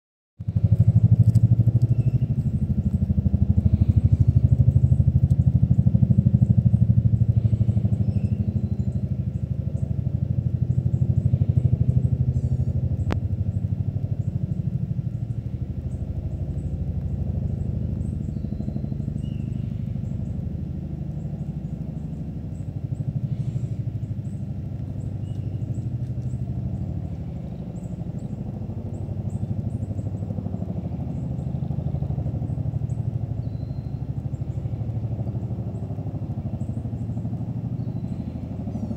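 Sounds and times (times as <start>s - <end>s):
helicopter rotor blade slap: 0.5s - 38.9s.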